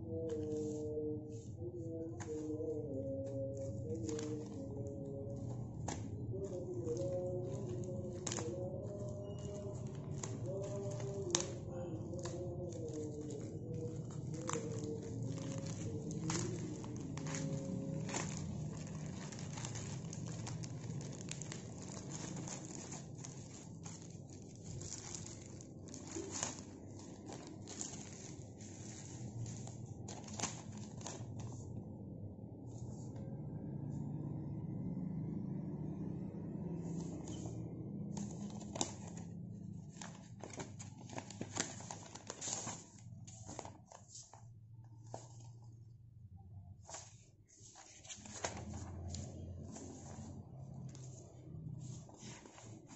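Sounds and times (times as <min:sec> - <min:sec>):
paper crinkling: 0:00.0 - 0:31.7, 0:36.8 - 0:45.8, 0:46.8 - 0:52.9
low steady hum: 0:00.0 - 0:52.9.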